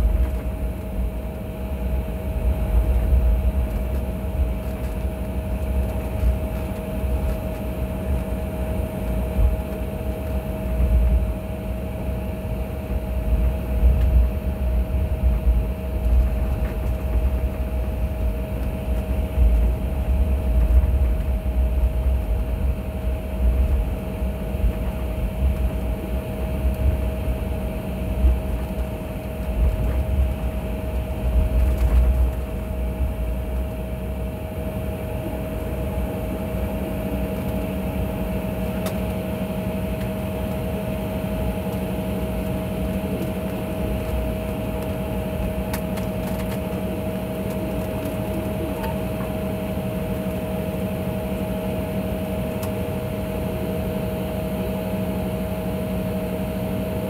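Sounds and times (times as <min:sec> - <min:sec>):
jet airliner taxiing rumble: 0:00.0 - 0:57.0
mid-pitched jet whine: 0:00.0 - 0:57.0.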